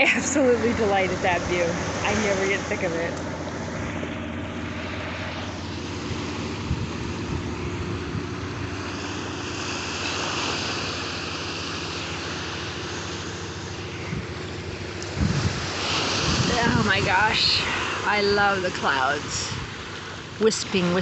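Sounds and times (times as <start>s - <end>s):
propeller airplane engine drone: 0.0s - 21.0s
surf: 0.0s - 21.0s
wind: 0.0s - 21.0s.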